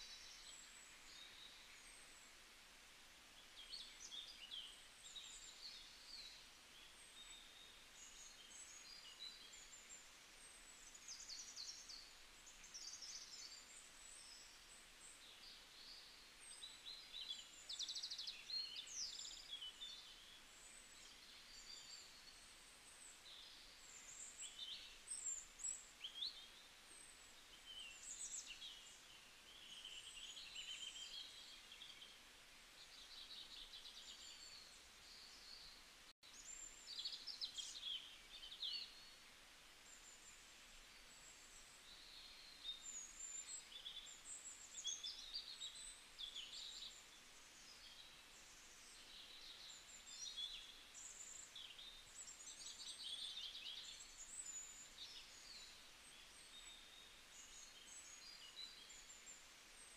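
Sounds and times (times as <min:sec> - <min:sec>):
faint birdsong chirps and trills: 0:00.0 - 0:59.9.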